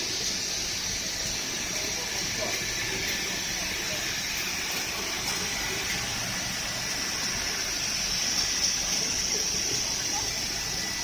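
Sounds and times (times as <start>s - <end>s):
belt sander hissing: 0.0s - 11.0s.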